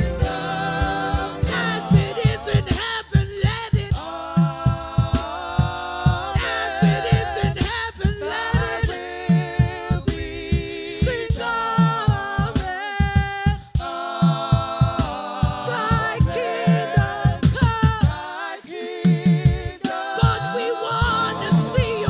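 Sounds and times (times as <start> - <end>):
repeating low beat: 0.0 - 18.2, 19.3 - 22.0
person singing with vibrato: 0.0 - 22.0.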